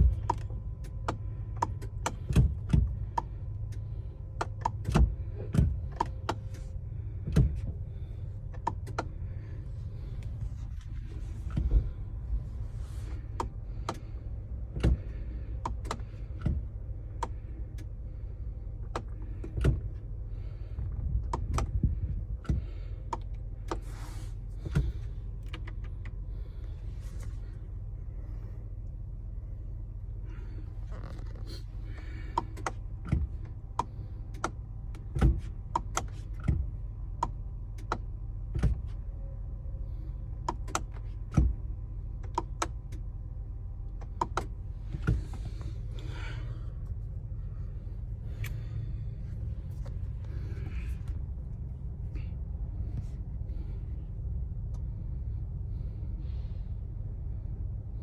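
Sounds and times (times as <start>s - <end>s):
van controls clicking: 0.0s - 56.1s
low hum: 0.0s - 58.0s.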